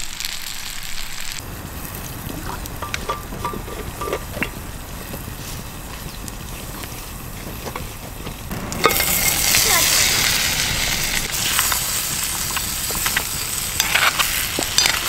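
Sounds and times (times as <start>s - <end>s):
campfire crackles and pops: 0.0s - 15.0s
fire low rumble: 0.0s - 15.0s.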